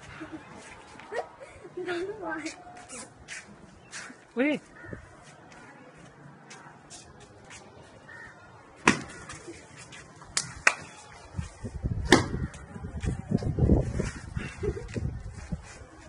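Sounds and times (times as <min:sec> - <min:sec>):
scuffling and shuffling: 0:00.0 - 0:08.3, 0:09.0 - 0:11.9, 0:12.5 - 0:16.0.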